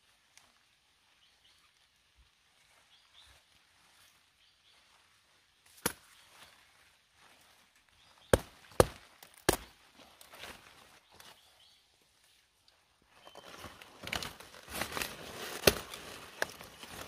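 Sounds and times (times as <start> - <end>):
leaf rustling: 0.0 - 17.0.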